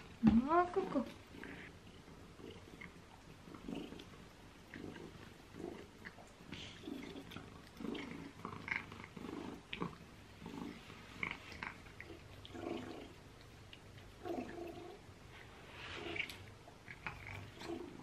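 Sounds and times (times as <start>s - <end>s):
cat licking and eating: 1.1s - 18.0s.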